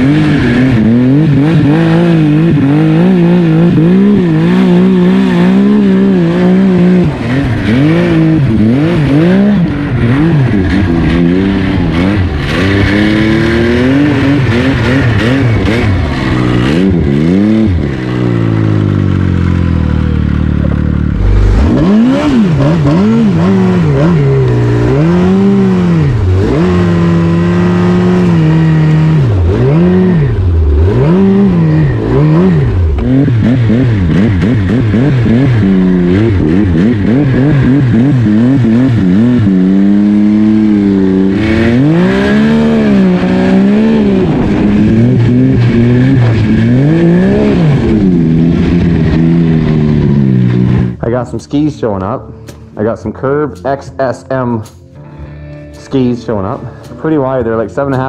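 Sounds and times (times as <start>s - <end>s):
snowmobile engine revving: 0.0s - 52.2s.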